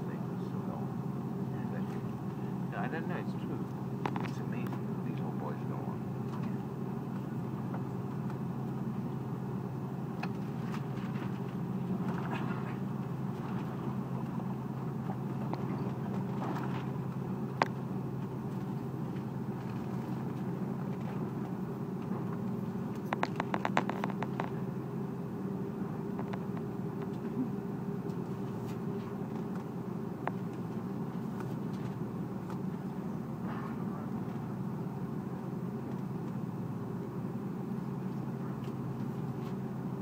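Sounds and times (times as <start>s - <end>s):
aircraft engine hum in cabin: 0.0s - 40.0s.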